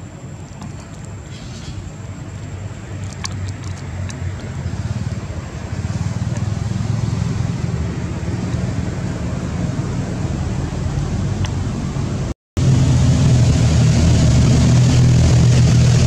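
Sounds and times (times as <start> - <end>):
low motor rumble: 0.0 - 16.0.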